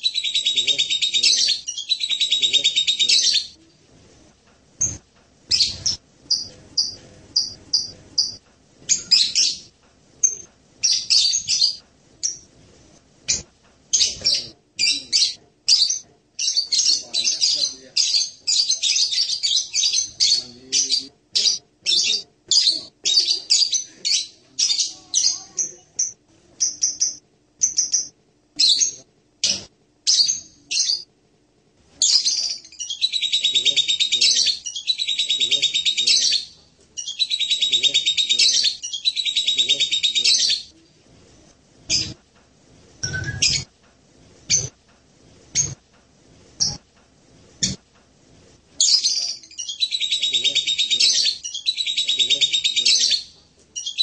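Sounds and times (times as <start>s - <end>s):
parrot chirps and twitters: 0.0s - 3.6s, 4.8s - 12.5s, 13.3s - 31.1s, 32.0s - 40.7s, 41.9s - 42.2s, 43.0s - 43.7s, 44.5s - 44.8s, 45.5s - 45.8s, 48.8s - 54.0s.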